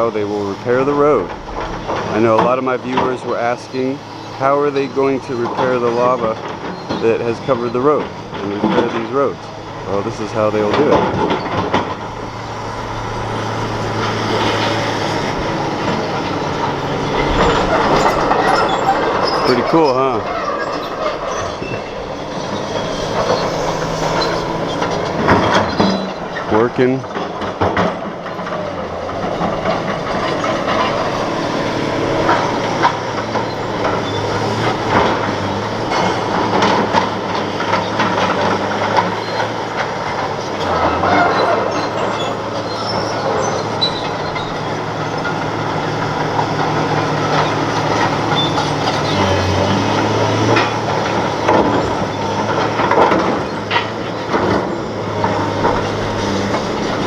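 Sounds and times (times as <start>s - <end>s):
bulldozer diesel engine: 0.0s - 57.0s
steel tracks clattering: 0.0s - 57.0s.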